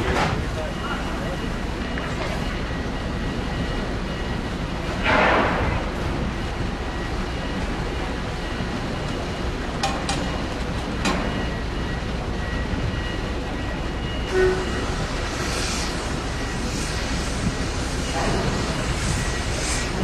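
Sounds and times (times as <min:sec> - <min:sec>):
diesel coach rumbling: 0:00.0 - 0:20.0
machinery hum: 0:00.0 - 0:20.0
short low beep: 0:00.6 - 0:17.1.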